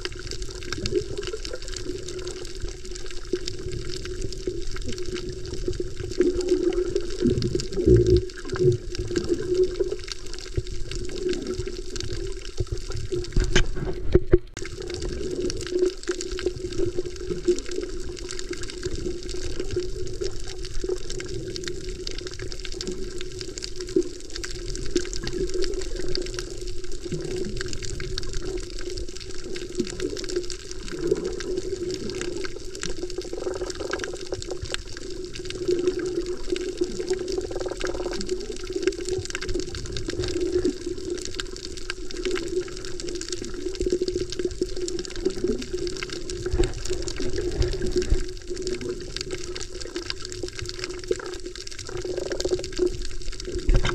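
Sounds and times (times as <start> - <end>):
underwater water wash: 0.0 - 53.9.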